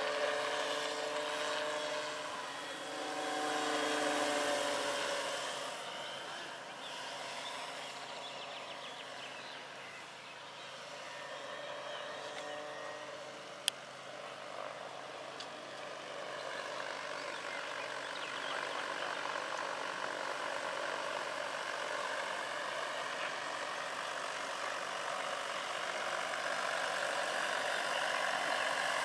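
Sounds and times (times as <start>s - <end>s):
model helicopter rotor whirr: 0.0s - 29.0s.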